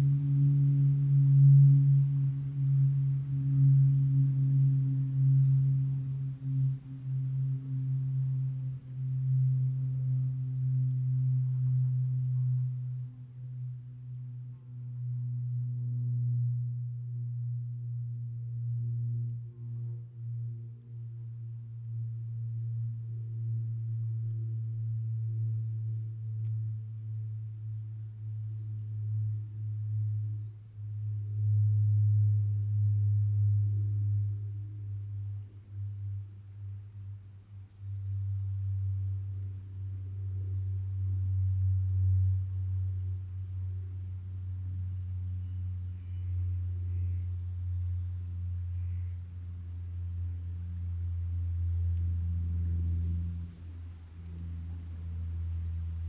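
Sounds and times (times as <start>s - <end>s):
faint high hiss: 0.0s - 56.0s
steady low-pitched hum: 0.0s - 56.0s.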